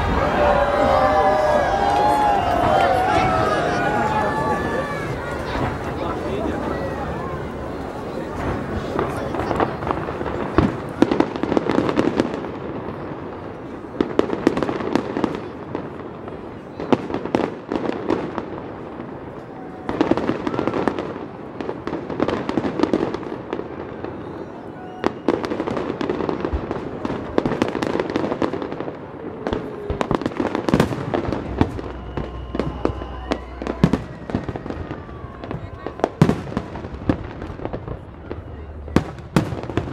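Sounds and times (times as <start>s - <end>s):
fireworks bursting with bangs: 0.0s - 39.9s
fireworks crackling: 0.0s - 39.9s.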